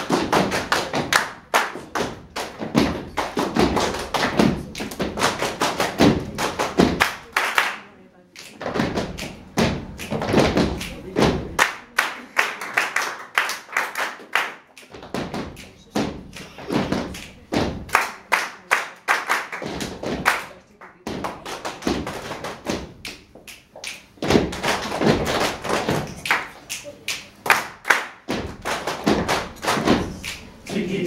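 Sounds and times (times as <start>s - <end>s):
people clapping hands: 0.0s - 31.0s.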